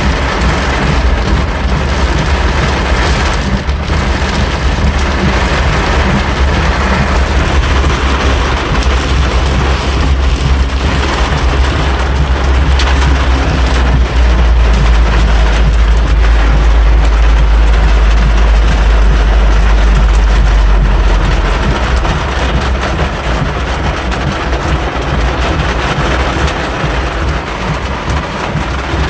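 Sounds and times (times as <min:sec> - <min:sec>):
car rumbling on road: 0:00.0 - 0:29.0
torrential rain on car roof: 0:00.0 - 0:29.0.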